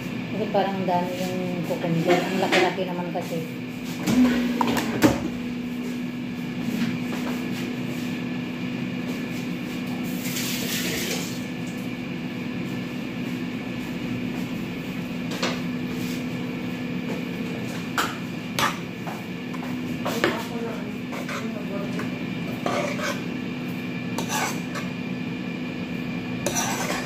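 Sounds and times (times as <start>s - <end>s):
steady hum: 0.0s - 10.5s, 11.1s - 27.0s.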